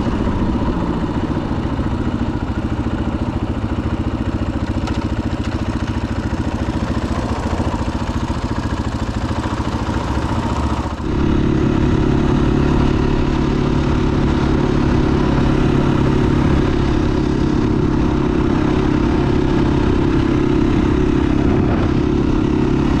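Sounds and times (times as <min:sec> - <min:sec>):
dirt bike engine idling: 0:00.0 - 0:23.0.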